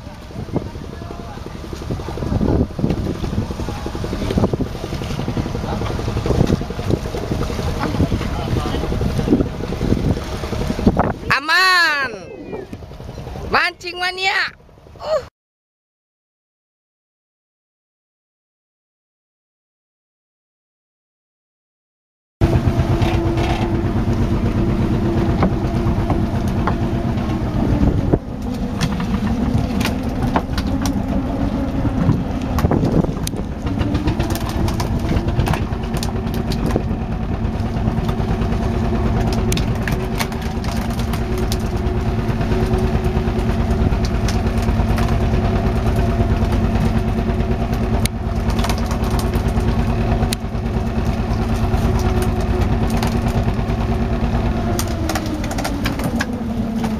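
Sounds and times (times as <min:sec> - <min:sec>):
boat engine running: 0:00.0 - 0:15.3, 0:22.4 - 0:56.9.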